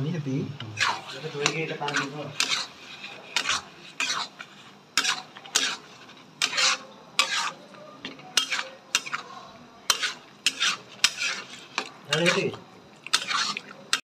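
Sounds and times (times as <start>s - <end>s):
metal spoon scraping thick curry: 0.6s - 14.0s.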